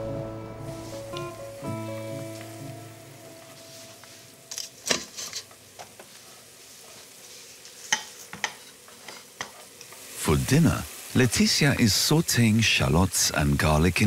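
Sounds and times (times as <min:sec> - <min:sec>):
oil sizzling in a frying pan: 0:00.6 - 0:14.0.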